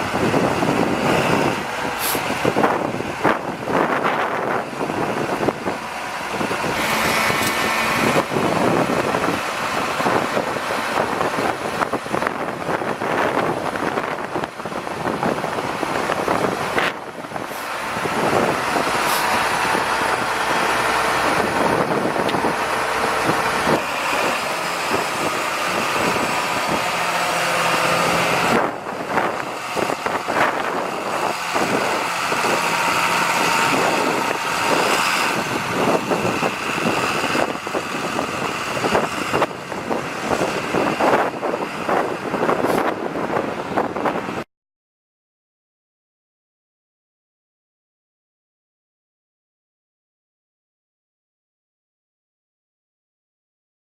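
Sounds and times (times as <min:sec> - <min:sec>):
tractor diesel engine running: 0:00.0 - 0:44.4.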